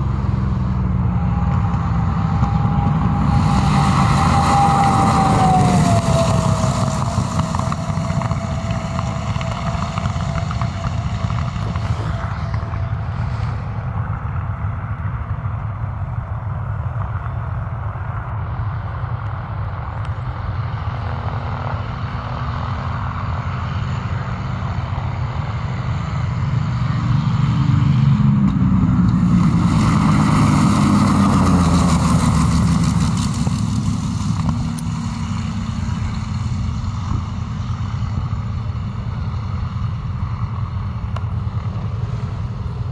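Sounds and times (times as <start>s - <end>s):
propeller plane engine: 0.0s - 42.9s.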